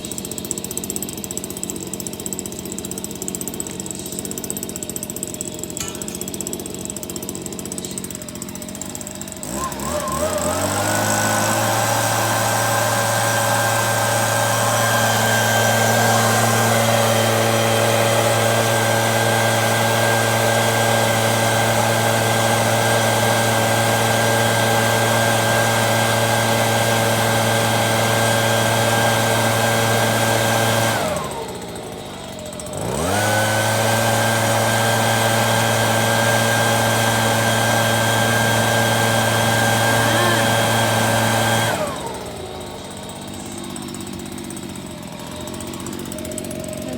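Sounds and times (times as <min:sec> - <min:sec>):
small motor humming: 0:00.0 - 0:46.9.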